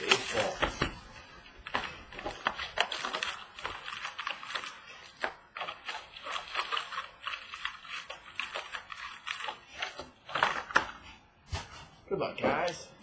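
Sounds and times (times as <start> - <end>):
foil packs crinkling: 0.0 - 11.0.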